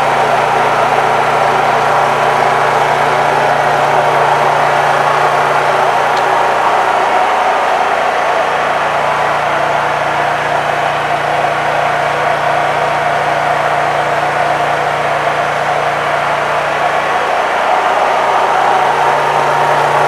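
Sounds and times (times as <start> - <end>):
generator running: 0.0 - 20.0.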